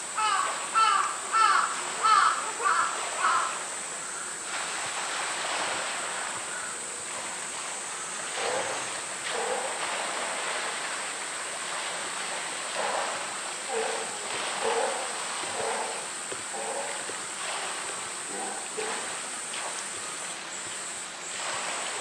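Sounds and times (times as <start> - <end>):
water splashing: 0.0 - 22.0.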